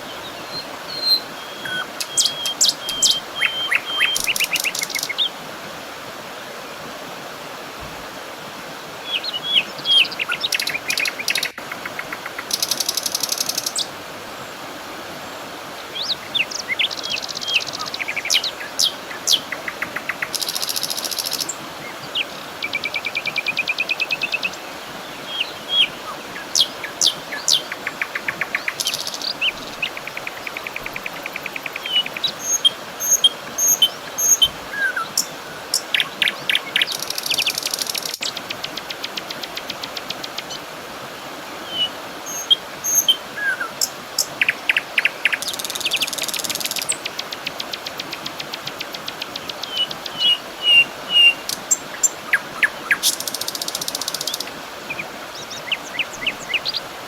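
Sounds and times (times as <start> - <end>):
songbirds chirping: 0.0 - 5.4, 8.7 - 57.0
steady background hiss: 0.0 - 57.0.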